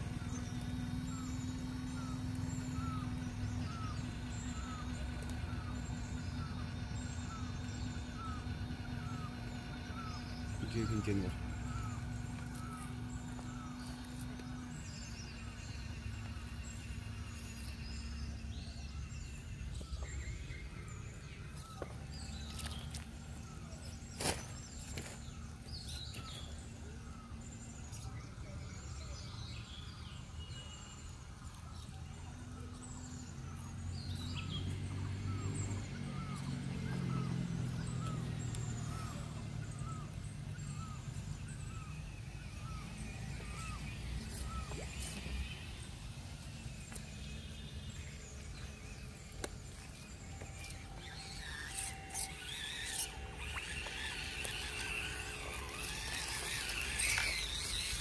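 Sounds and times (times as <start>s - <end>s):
birds chirping: 0.0s - 58.0s
low outdoor rumble: 0.0s - 58.0s
steady low hum: 0.0s - 58.0s.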